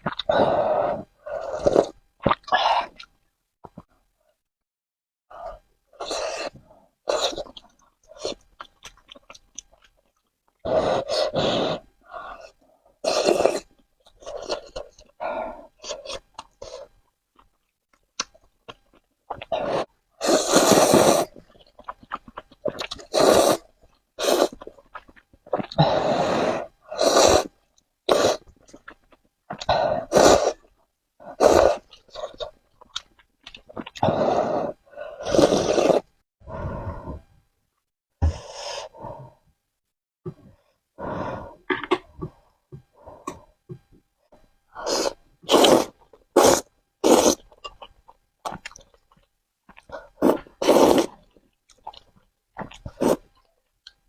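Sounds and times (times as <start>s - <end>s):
person chewing noodles: 0.0s - 3.9s, 6.0s - 36.2s, 44.8s - 54.0s.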